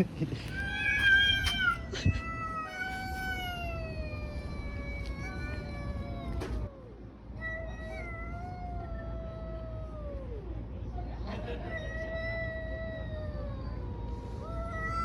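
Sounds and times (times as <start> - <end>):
cats yowling: 0.4 - 15.0.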